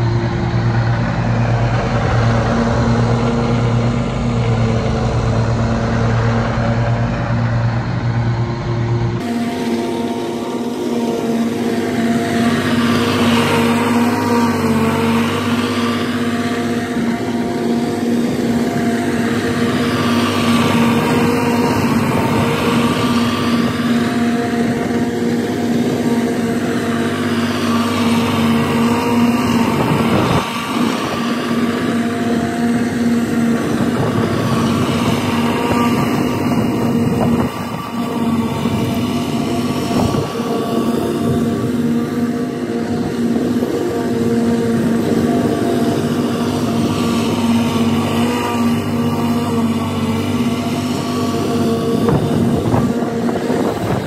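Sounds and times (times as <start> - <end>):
riding lawn mower engine: 0.0 - 54.0.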